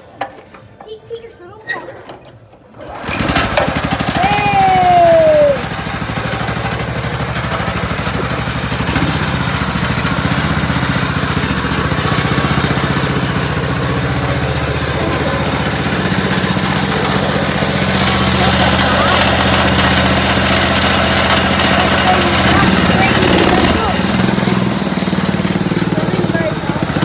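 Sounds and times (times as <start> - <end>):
small tractor engine running: 2.8 - 27.0.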